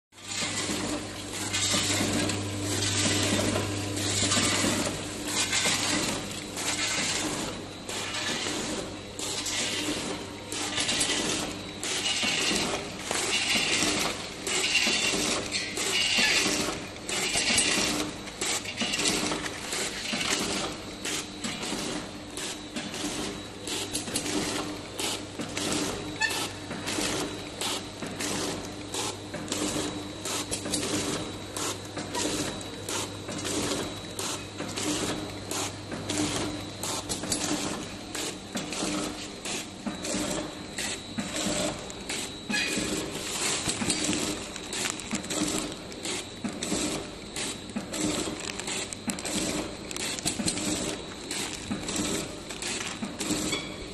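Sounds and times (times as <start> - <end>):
steady machine hum: 0.2 - 53.9.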